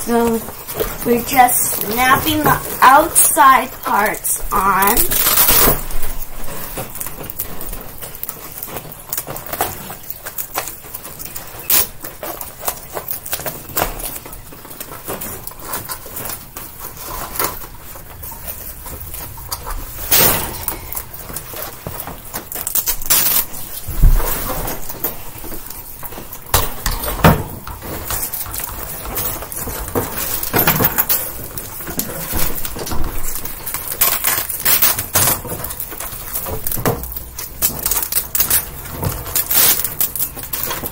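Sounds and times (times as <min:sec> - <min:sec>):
metal wire and plastic clicks and rattles: 0:05.0 - 0:40.9.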